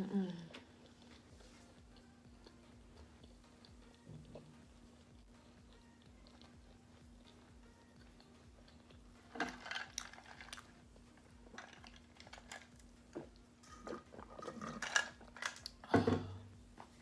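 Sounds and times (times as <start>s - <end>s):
chewing and smacking mouth sounds: 0.3s - 15.8s.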